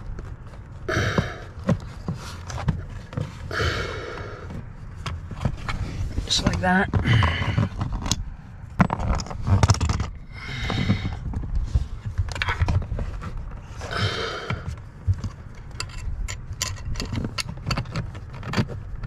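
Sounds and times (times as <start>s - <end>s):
scraping rustles: 0.0s - 19.0s.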